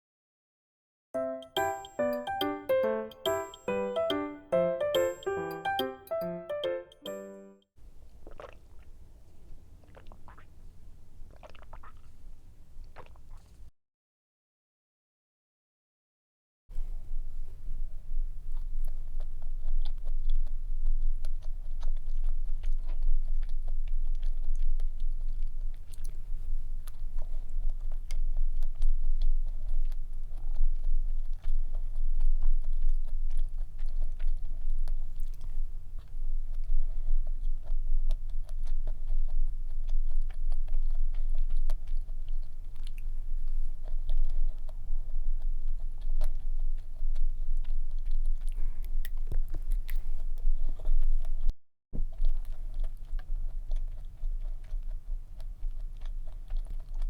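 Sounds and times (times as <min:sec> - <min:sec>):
chewing and biting cake: 0:08.0 - 0:13.7, 0:16.8 - 0:57.0.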